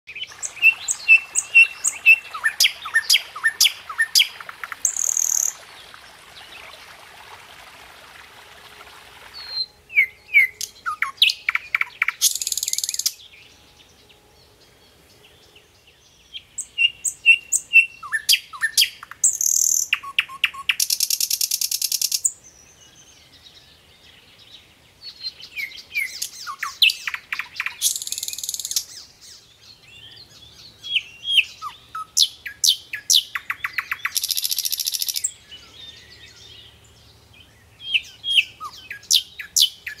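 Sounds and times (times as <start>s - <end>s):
birds singing: 0.1s - 7.1s, 8.4s - 40.0s.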